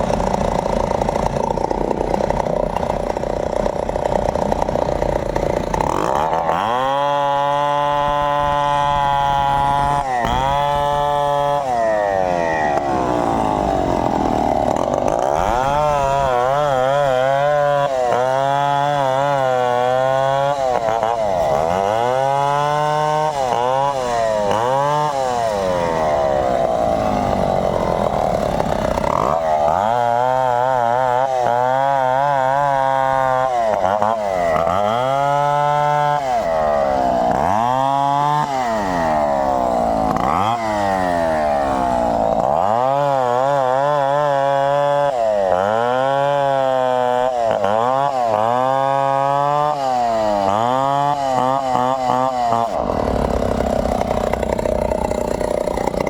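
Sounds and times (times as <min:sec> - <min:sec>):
chainsaw revving in a cut: 0:00.0 - 0:56.0.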